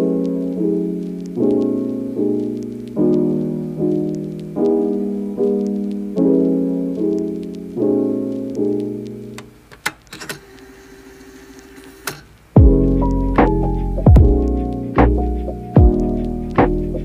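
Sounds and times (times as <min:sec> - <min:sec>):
soft piano chords: 0:00.0 - 0:09.4, 0:12.6 - 0:17.0.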